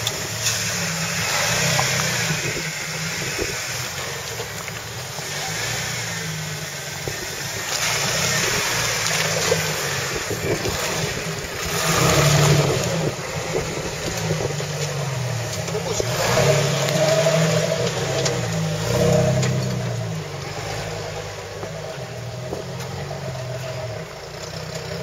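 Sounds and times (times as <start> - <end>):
car engine revving: 0.0 - 25.0
tyres churning mud and water: 0.0 - 25.0.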